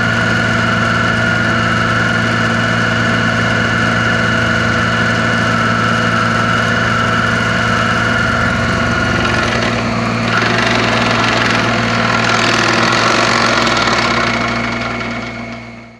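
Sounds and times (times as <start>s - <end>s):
engine running: 0.0s - 15.9s.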